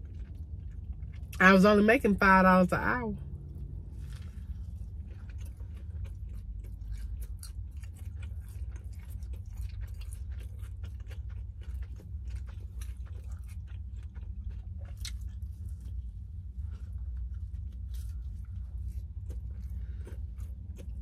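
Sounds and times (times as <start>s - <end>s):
person chewing food: 0.0s - 1.4s, 3.3s - 21.0s
steady low hum: 0.0s - 21.0s.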